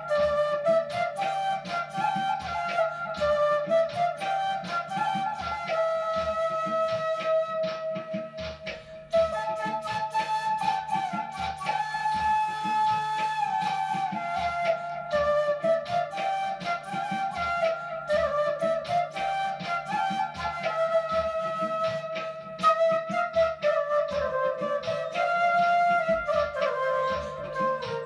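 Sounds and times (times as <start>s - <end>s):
backing track with steady beat: 0.0s - 28.0s
bamboo flute melody: 0.0s - 28.0s.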